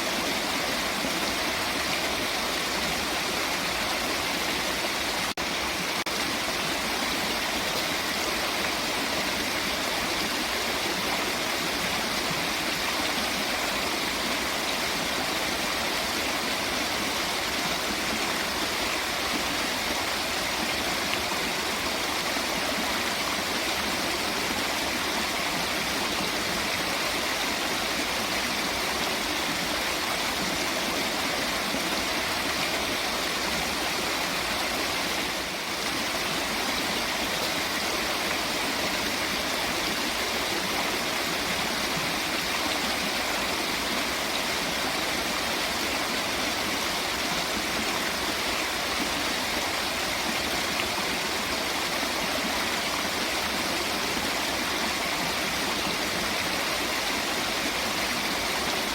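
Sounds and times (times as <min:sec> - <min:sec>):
flowing water rushing: 0:00.0 - 0:58.9.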